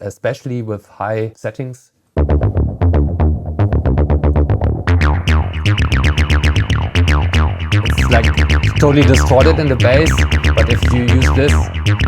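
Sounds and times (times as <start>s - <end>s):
distorted acid synth bassline: 2.2s - 12.0s.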